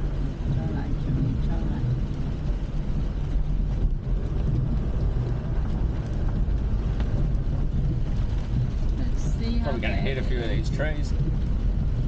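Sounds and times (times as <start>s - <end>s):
car rumbling on rough track: 0.0s - 12.0s.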